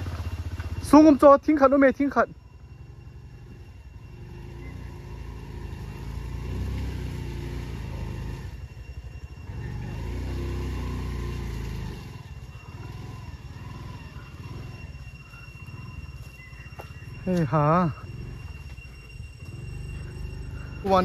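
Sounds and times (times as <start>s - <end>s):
vehicle engine under load: 0.0s - 21.0s.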